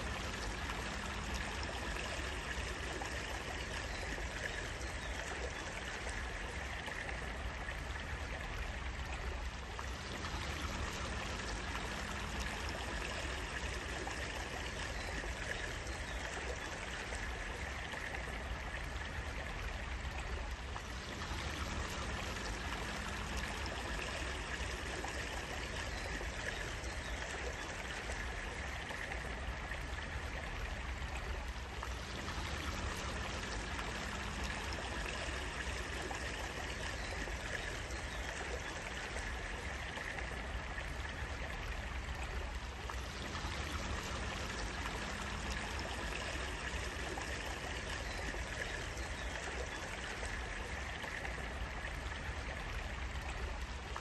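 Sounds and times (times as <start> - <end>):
small stream trickling: 0.0 - 54.0.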